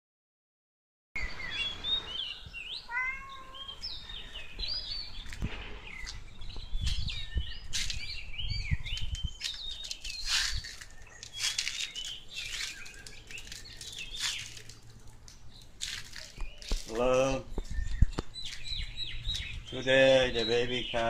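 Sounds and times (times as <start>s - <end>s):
birds chirping and calling: 1.2s - 21.0s.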